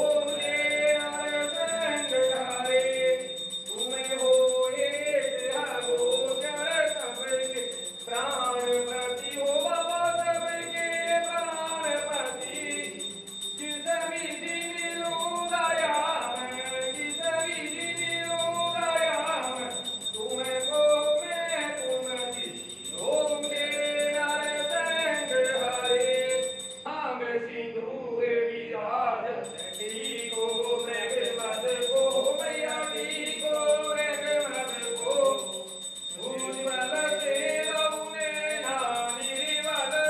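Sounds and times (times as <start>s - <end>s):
steady high ringing tone: 0.0s - 27.2s, 29.2s - 40.0s
voices chanting devotional song: 0.0s - 40.0s.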